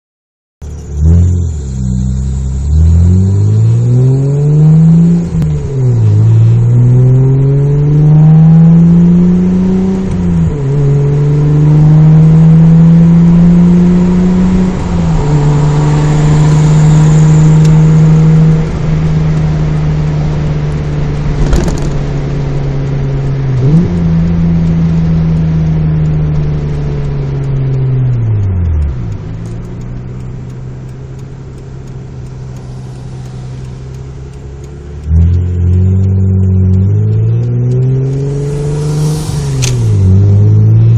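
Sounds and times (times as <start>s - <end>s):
car engine accelerating and shifting: 0.6s - 40.9s.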